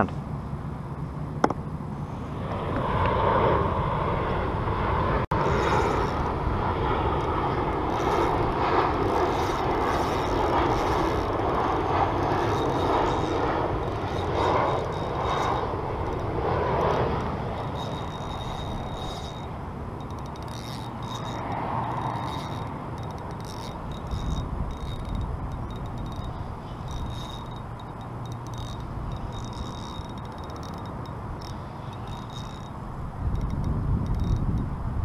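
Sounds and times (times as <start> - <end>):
steady engine drone: 0.0 - 35.0.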